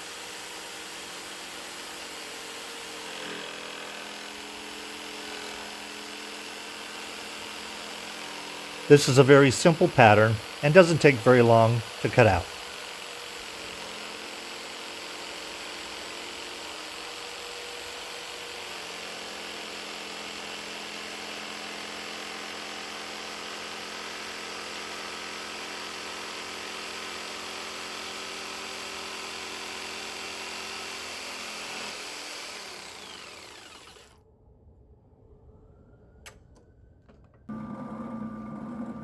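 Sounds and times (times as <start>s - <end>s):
jigsaw sawing wood: 0.0s - 34.2s.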